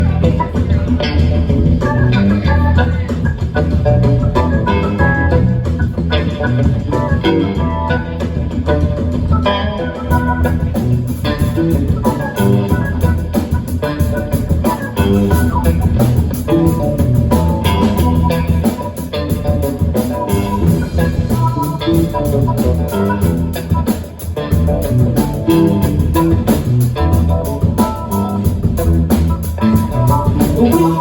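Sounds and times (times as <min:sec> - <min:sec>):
bass line: 0:00.0 - 0:31.0
drums: 0:00.0 - 0:31.0
guitar: 0:00.0 - 0:31.0.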